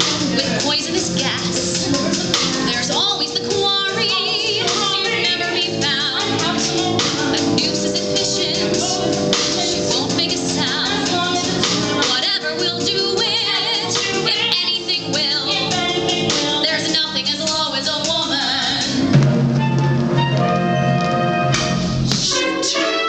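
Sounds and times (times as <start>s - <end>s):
woman singing with vibrato: 0.0s - 19.1s
instrumental accompaniment: 0.0s - 23.0s.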